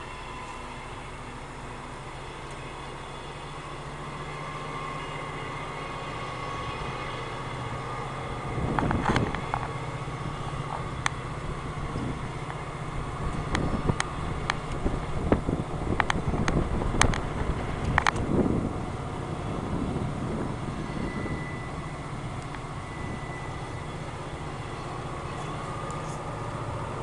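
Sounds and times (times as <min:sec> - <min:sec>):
diesel locomotive drone: 0:00.0 - 0:27.0
rail cars clicking and clanking: 0:00.0 - 0:27.0.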